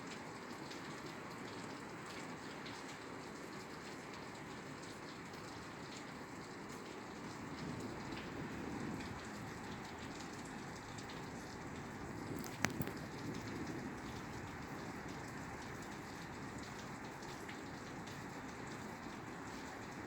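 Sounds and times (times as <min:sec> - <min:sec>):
rain on a roof: 0:00.0 - 0:20.0.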